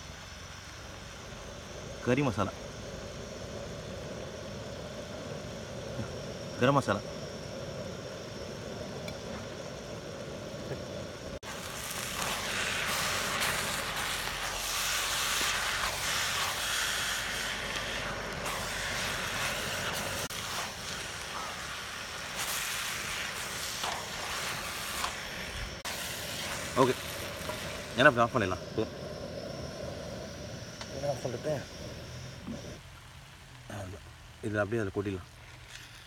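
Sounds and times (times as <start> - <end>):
onions sizzling in a pan: 0.0 - 36.0
rush of cooking fire: 0.0 - 36.0.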